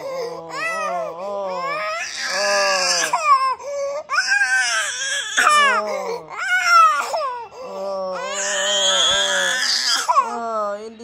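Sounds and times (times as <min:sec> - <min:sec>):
baby crying: 0:00.0 - 0:10.5.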